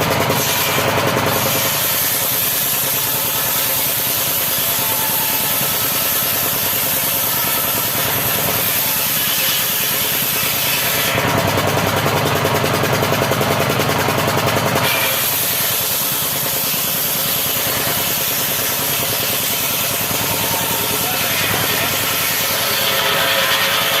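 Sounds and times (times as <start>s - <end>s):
motorised saw cutting wood: 0.0s - 24.0s.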